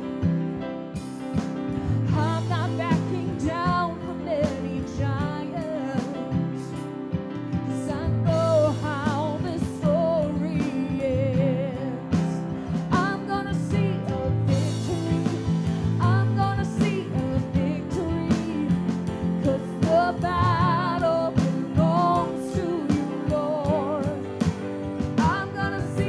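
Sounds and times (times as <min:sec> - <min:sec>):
worship band music: 0:00.0 - 0:26.0
woman singing with vibrato: 0:01.9 - 0:06.6, 0:07.7 - 0:26.0.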